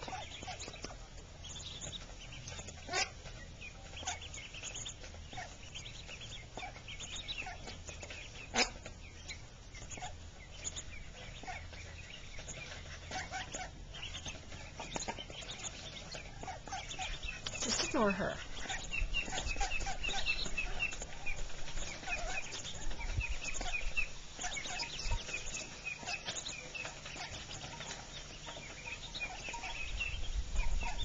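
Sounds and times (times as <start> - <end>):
ducklings peeping: 0.0 - 31.0.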